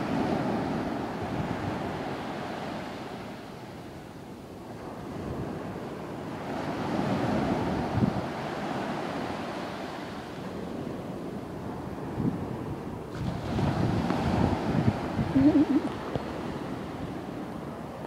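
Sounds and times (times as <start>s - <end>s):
surf washing ashore: 0.0s - 18.0s
wind on microphone: 0.0s - 18.0s.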